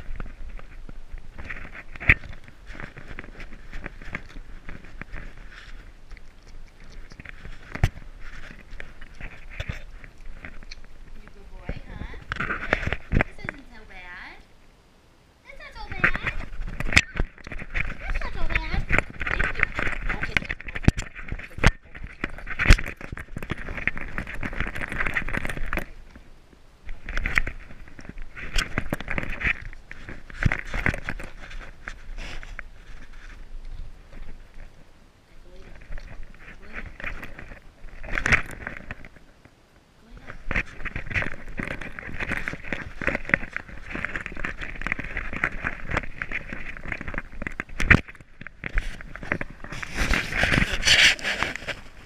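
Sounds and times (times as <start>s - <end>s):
camera handling rattle and scraping: 0.0s - 13.7s, 15.5s - 39.6s, 40.2s - 52.0s.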